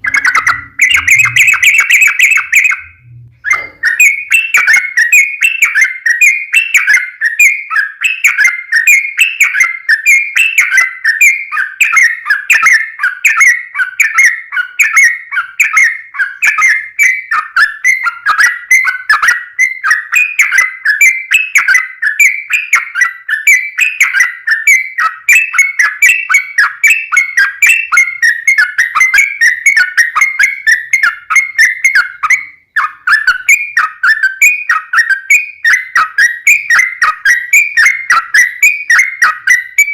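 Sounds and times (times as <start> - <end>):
bird singing bubbly whistled notes: 0.0 - 39.9.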